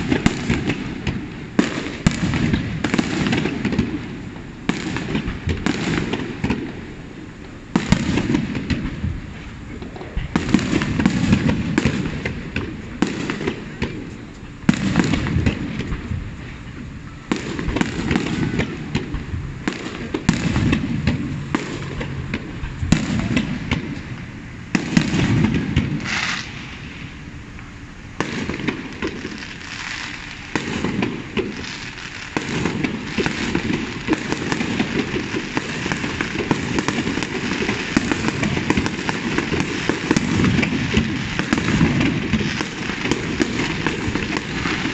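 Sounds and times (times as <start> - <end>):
fireworks crackling: 0.0 - 44.9
fireworks shells bursting: 0.0 - 44.9.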